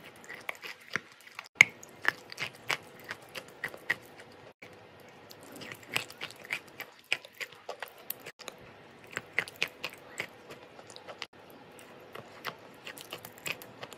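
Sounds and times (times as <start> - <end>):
chewing crunchy chalk: 0.0 - 4.7, 5.3 - 13.9.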